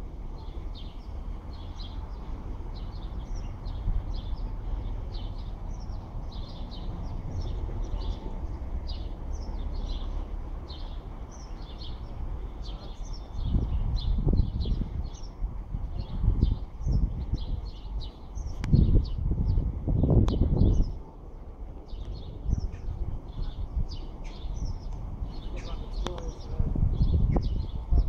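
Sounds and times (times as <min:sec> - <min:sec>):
steady low rumble: 0:00.0 - 0:28.0
small birds chirping: 0:00.4 - 0:21.1, 0:21.8 - 0:28.0.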